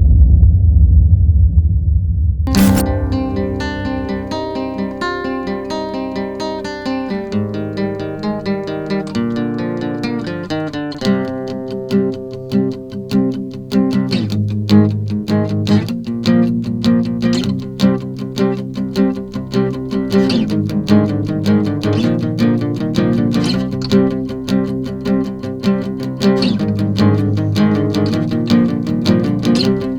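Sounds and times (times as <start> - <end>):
acoustic guitar strummed and plucked: 2.5 - 29.9.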